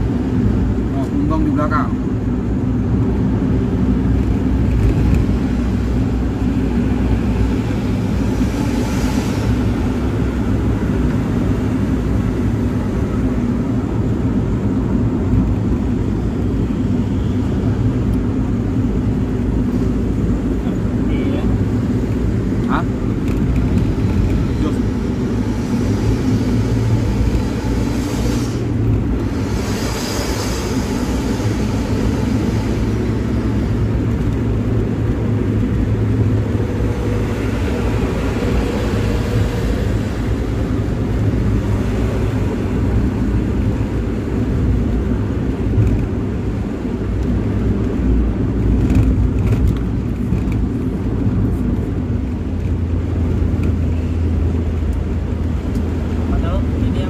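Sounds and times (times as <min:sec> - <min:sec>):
bus engine droning: 0:00.0 - 0:57.0
road and wind noise: 0:00.0 - 0:57.0.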